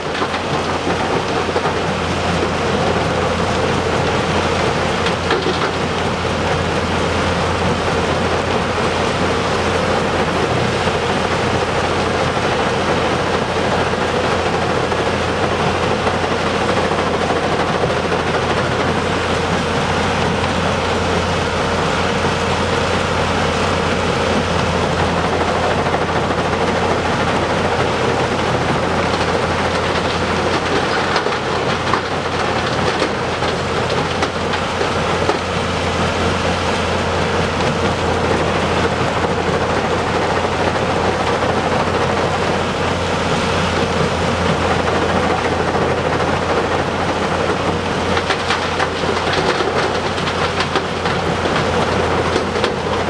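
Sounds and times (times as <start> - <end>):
low diesel engine drone: 0.0 - 53.0.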